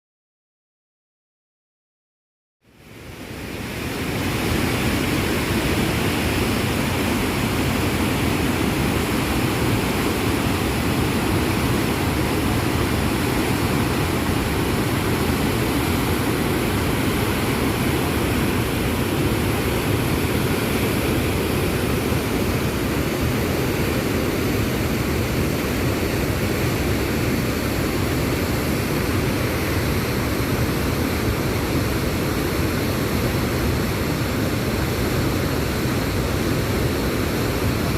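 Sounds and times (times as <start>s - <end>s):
waterfall rushing: 2.8s - 37.9s.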